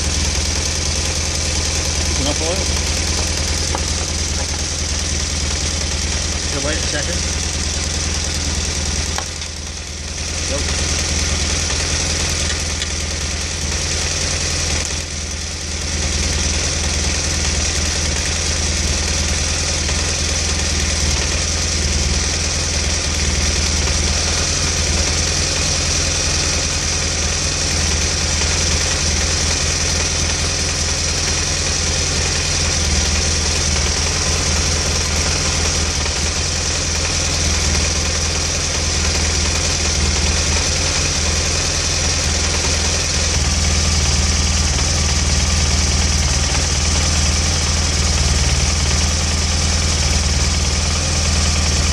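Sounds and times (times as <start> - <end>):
motorcycle engine idling: 0.0 - 51.9.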